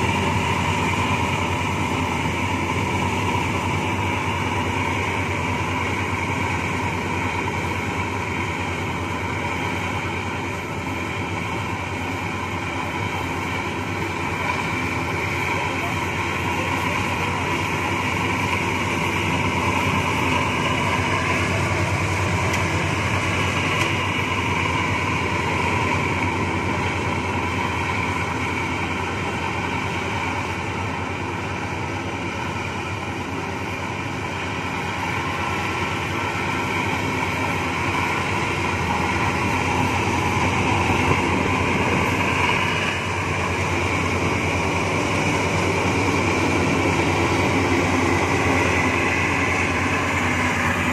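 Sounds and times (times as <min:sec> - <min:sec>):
combine harvester running: 0:00.0 - 0:50.9.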